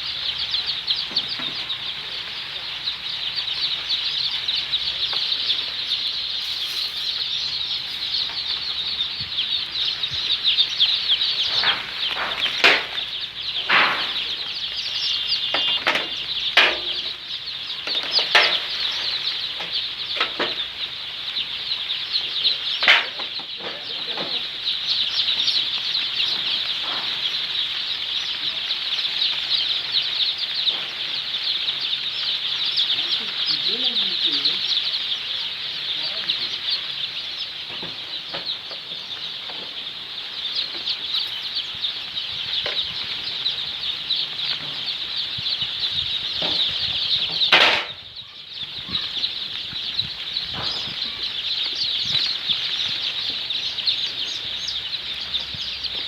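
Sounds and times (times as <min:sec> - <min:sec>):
chicks peeping: 0:00.0 - 0:56.0
louder single chick calls: 0:03.0 - 0:23.6, 0:24.3 - 0:56.0.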